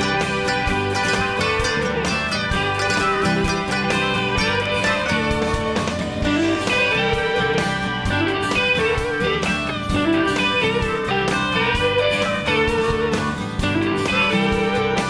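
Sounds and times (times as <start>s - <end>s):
plucked guitar tune: 0.0s - 15.0s.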